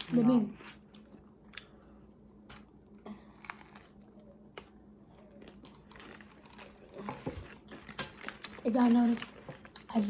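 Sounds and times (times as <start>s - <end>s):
faint chewing: 0.0s - 10.0s.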